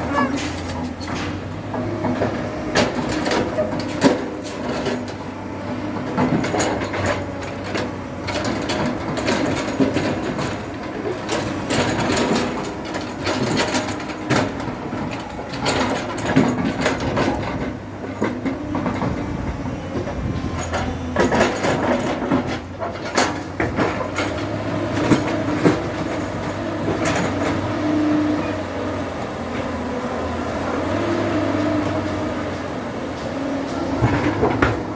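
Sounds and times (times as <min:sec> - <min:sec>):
metal clanks and knocks: 0:00.0 - 0:30.0, 0:31.1 - 0:34.9
diesel engine running: 0:00.0 - 0:34.9.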